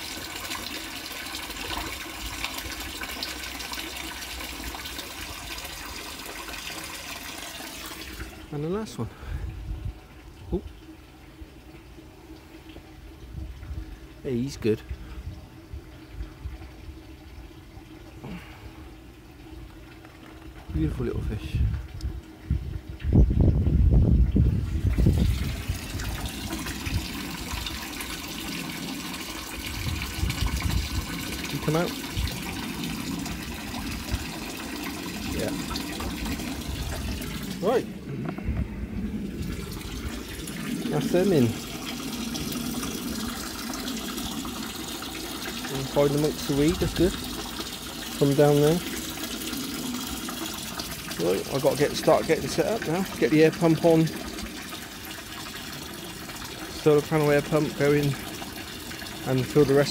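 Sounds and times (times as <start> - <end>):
water pouring into tank: 0.0 - 15.2, 24.2 - 59.9.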